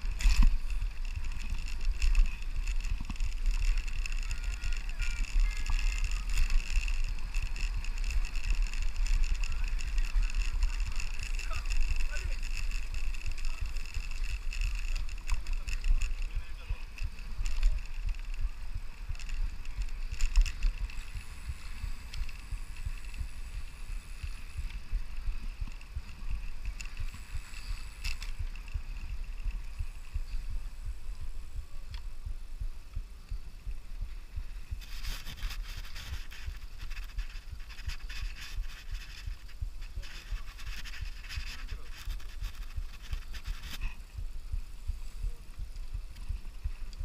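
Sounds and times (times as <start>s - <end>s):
loud hiss with rattling: 0.0s - 31.6s, 33.6s - 47.0s
bicycle clicks and rattles: 0.0s - 32.2s, 32.8s - 47.0s
wind buffeting microphone: 0.0s - 47.0s.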